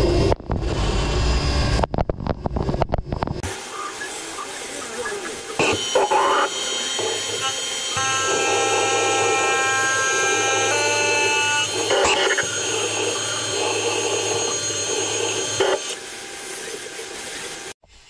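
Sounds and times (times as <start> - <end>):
milling machine whine: 3.2 - 17.8.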